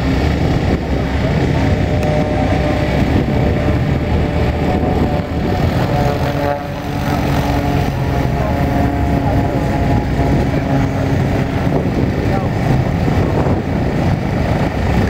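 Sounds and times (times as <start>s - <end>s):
propeller plane engine running: 0.0s - 15.0s.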